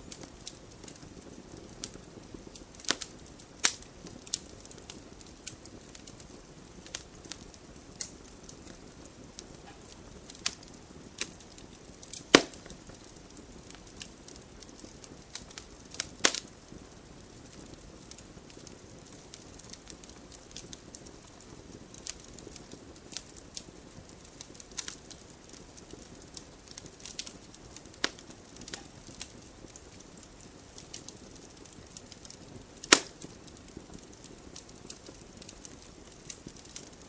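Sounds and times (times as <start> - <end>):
fire pops: 0.0 - 37.0
wood fire crackling: 0.0 - 37.0.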